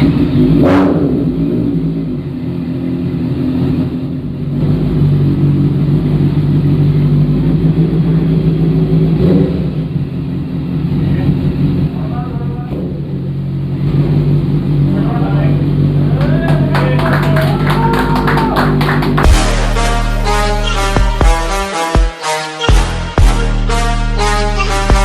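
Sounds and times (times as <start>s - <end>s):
motorcycle engine idling and revving: 0.0s - 22.0s, 22.7s - 25.0s.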